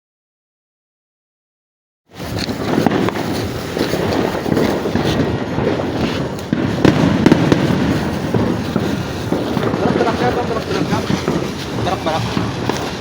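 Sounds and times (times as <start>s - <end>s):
firecrackers crackling: 2.1s - 13.0s
loud firecracker bangs: 2.1s - 13.0s.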